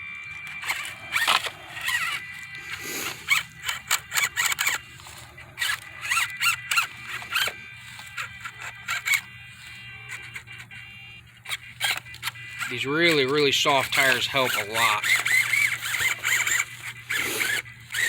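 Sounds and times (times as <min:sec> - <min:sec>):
electric motor and gears whining: 0:00.0 - 0:18.0
tires scraping over rock: 0:00.4 - 0:18.0.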